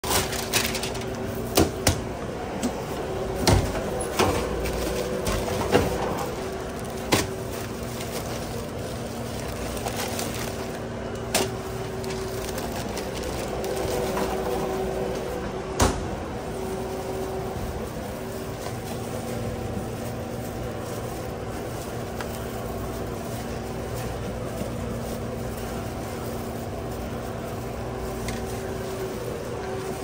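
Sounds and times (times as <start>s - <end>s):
paper and plastic bag handling: 0.0s - 30.0s.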